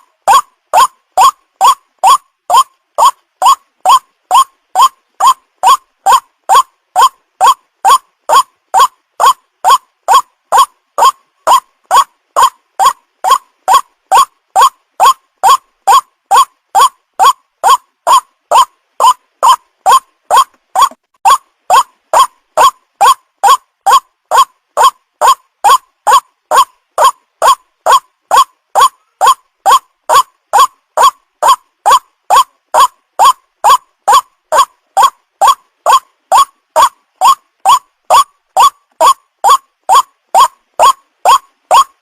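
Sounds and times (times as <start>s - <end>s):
waterhen call: 0.0s - 42.0s.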